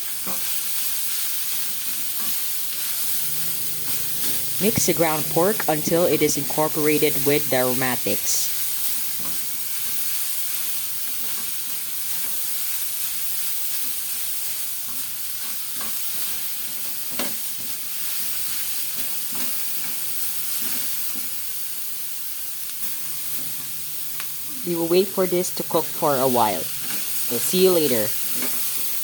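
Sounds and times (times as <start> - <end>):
meat sizzling in oil: 0.0 - 5.7, 7.8 - 24.5, 25.7 - 29.0.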